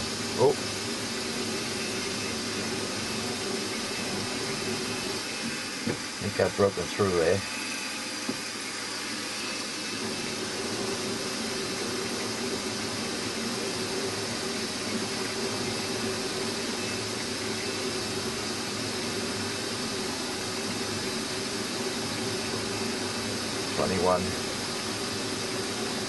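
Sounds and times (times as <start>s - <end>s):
milling machine drilling steel: 0.0s - 26.0s.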